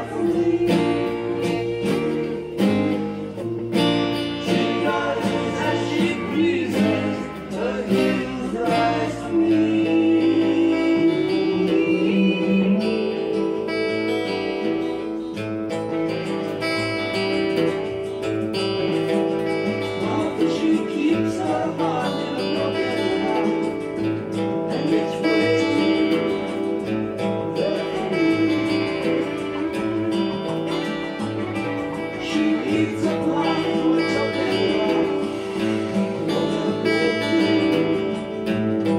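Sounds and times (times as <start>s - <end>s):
fingerpicked acoustic guitar: 0.0s - 38.9s.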